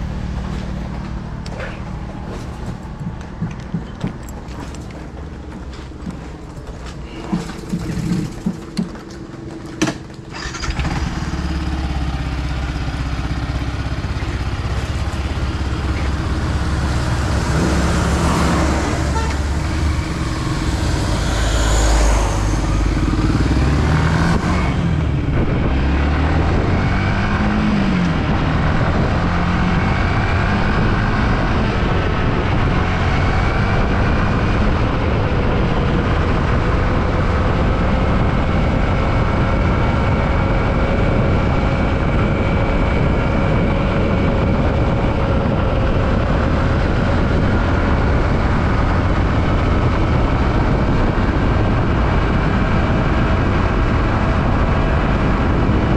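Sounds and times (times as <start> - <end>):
road noise: 0.0 - 55.9
motorcycle engine revving: 7.0 - 9.0, 9.9 - 55.9.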